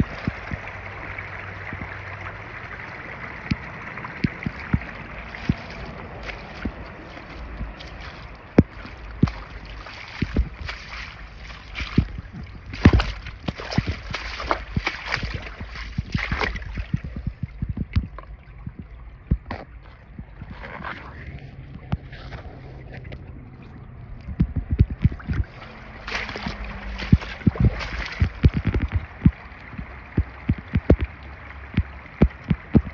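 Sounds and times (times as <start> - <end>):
water gurgling over rocks: 0.0 - 32.9
water splashes and drips: 0.0 - 32.9.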